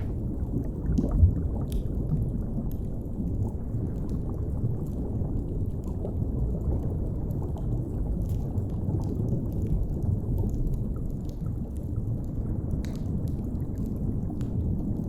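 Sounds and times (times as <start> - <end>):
deep underwater rumble: 0.0 - 15.0
fire crackling: 0.0 - 15.0.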